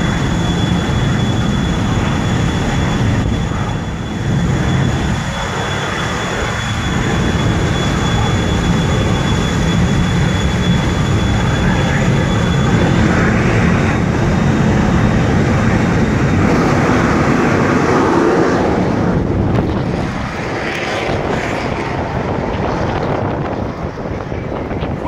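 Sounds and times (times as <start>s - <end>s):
high whine: 0.0s - 25.0s
jet engine roaring: 0.0s - 25.0s.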